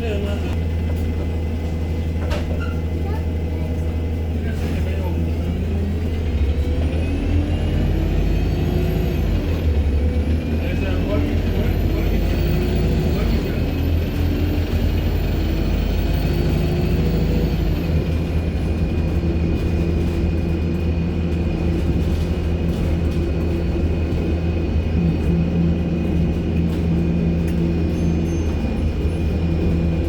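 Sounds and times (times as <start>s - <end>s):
bus diesel engine humming: 0.0s - 30.0s.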